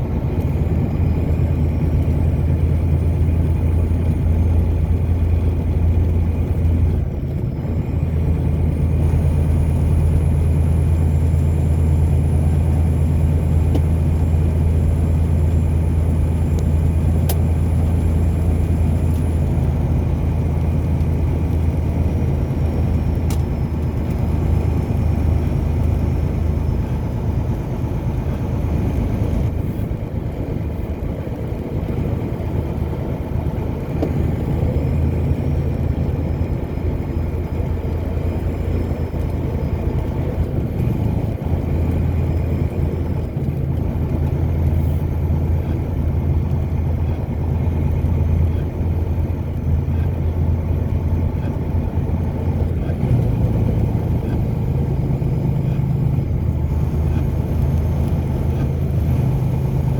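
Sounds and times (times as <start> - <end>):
low engine drone: 0.0 - 59.9
tyre and road noise: 0.0 - 59.9.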